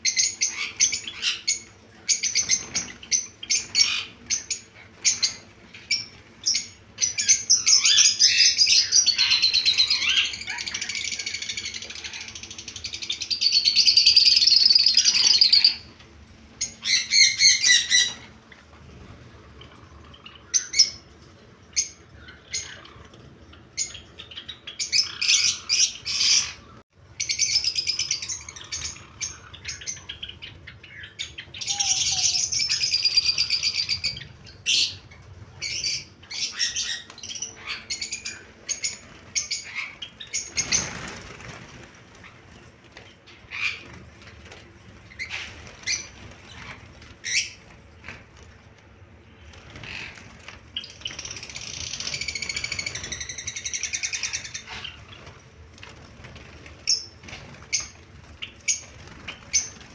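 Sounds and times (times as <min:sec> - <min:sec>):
sparrows chirping and trilling: 0:00.0 - 0:48.5, 0:49.2 - 0:59.9.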